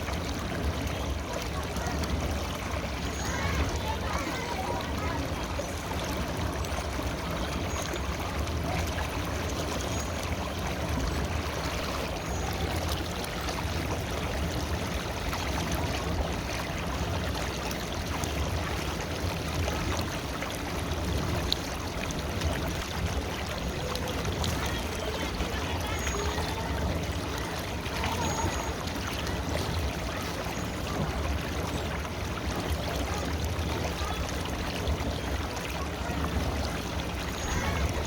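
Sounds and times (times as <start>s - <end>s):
river water babbling over stones: 0.0s - 38.0s.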